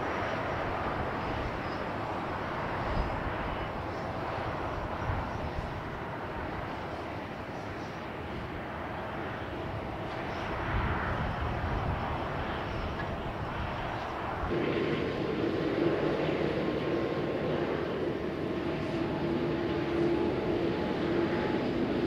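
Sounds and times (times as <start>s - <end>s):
jet engines rushing: 0.0s - 22.0s
steady hum: 0.0s - 22.0s.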